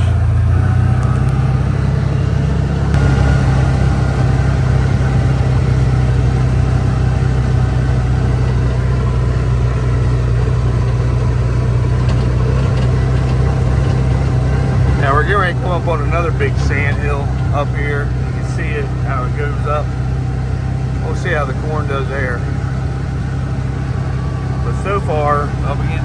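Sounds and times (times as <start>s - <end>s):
vehicle engine low hum: 0.0s - 26.0s.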